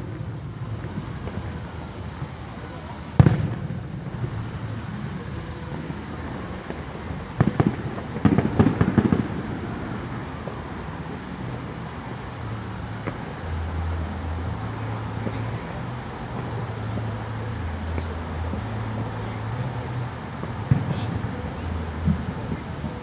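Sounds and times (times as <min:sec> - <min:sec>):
fireworks bangs: 0:00.0 - 0:23.0
fireworks crackling pops: 0:00.0 - 0:23.0.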